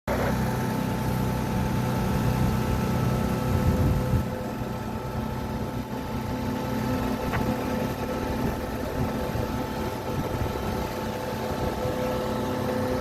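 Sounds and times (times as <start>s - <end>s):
diesel engine running: 0.1s - 13.0s
steady whine: 0.1s - 13.0s.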